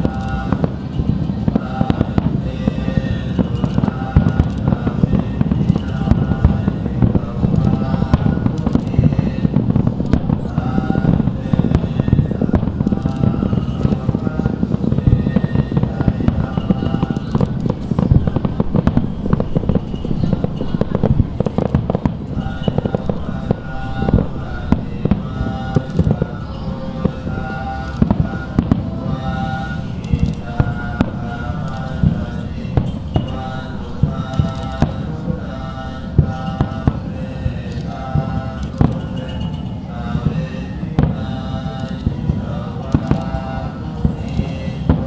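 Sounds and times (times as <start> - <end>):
fireworks bangs and crackles: 0.0 - 45.0
low rumble: 0.8 - 37.3.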